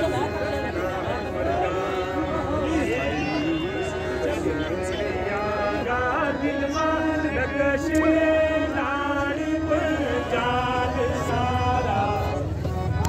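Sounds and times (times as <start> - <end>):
crowd murmur: 0.0 - 13.0.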